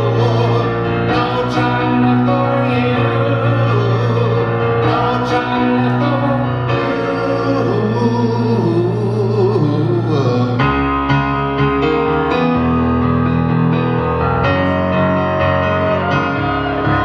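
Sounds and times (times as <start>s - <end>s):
digital piano chords: 0.0s - 17.0s.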